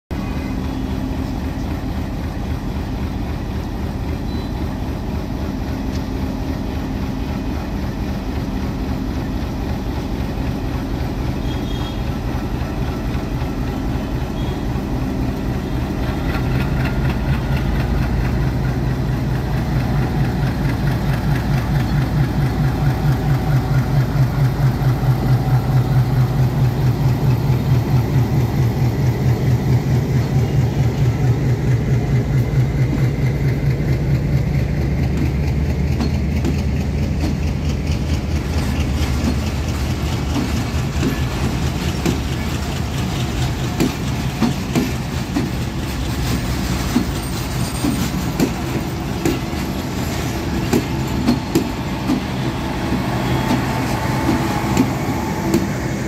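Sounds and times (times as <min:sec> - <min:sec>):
diesel locomotive engine pulsing: 0:00.1 - 0:56.0.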